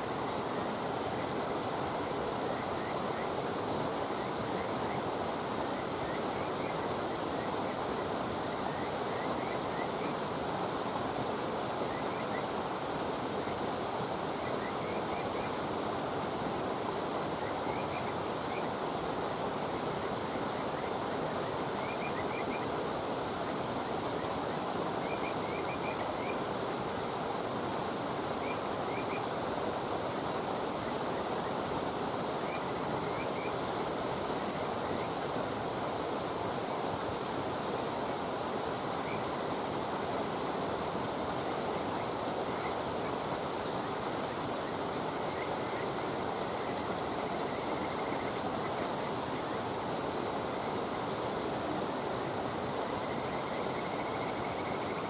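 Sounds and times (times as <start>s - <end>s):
faint insect trills: 0.0s - 55.0s
insect chirping: 0.0s - 55.0s.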